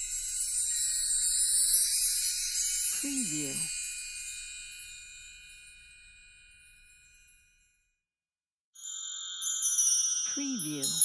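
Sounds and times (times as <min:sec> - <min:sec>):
wind chimes ringing: 0:00.0 - 0:07.6, 0:08.8 - 0:11.0.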